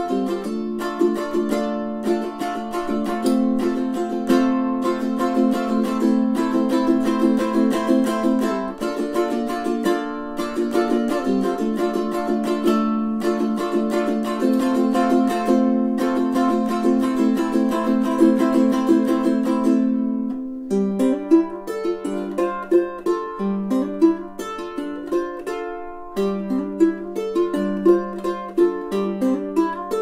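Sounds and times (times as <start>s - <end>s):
ukulele fingerpicking: 0.0s - 30.0s
ukulele strumming: 0.0s - 30.0s.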